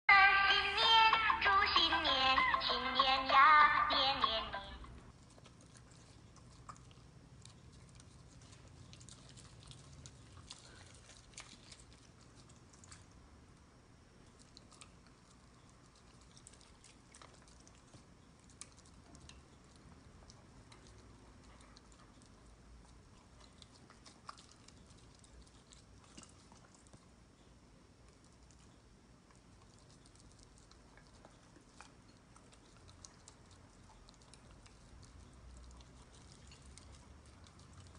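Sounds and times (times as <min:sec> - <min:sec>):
quiet chewing: 0:04.2 - 0:37.9.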